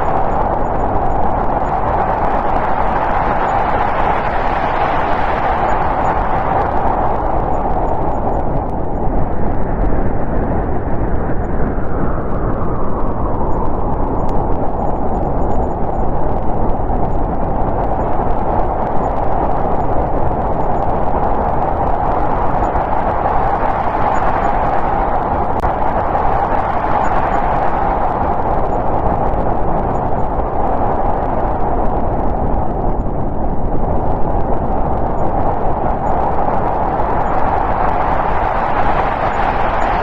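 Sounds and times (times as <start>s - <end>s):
storm wind whistling: 0.0s - 40.0s.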